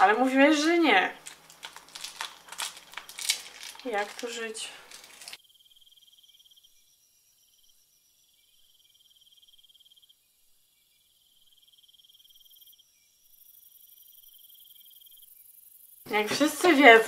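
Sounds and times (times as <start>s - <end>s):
cricket trill: 1.2s - 17.0s.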